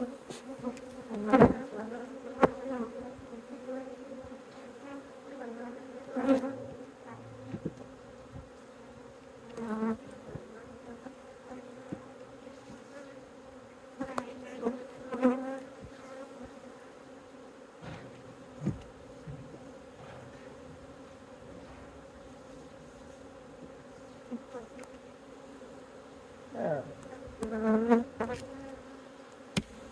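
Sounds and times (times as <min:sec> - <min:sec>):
bee flying close past: 0:00.0 - 0:29.9
honeybees buzzing: 0:00.0 - 0:29.9.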